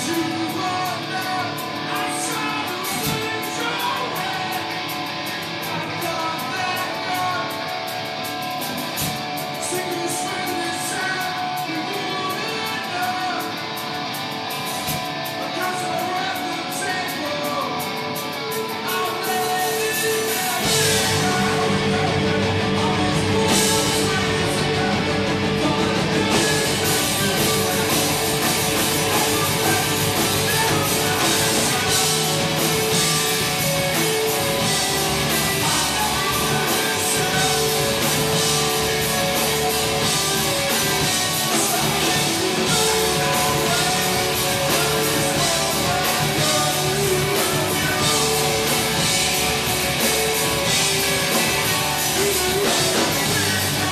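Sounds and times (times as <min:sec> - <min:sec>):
bass guitar: 0:00.0 - 0:53.9
drum kit: 0:00.0 - 0:53.9
electric guitars: 0:00.0 - 0:53.9.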